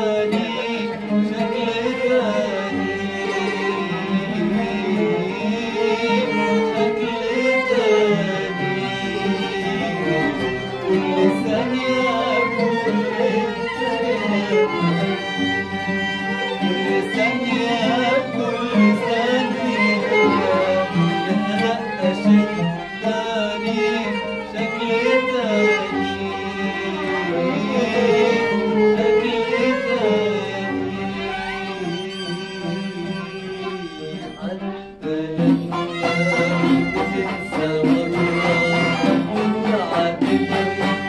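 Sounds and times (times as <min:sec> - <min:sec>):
man singing: 0:00.0 - 0:41.0
oud plucking: 0:00.0 - 0:41.0
second string instrument: 0:00.0 - 0:41.0.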